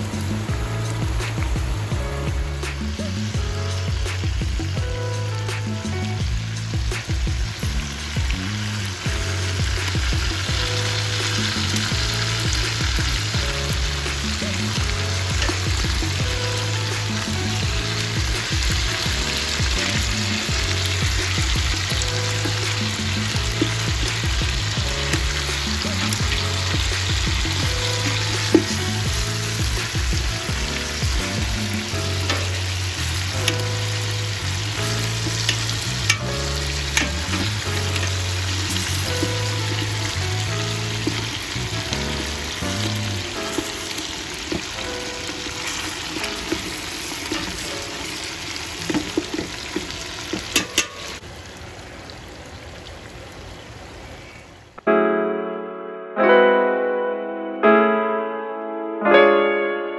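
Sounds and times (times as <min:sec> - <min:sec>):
background music with bass line: 0:00.0 - 0:48.0
meat sizzling in hot fat: 0:00.0 - 0:51.2.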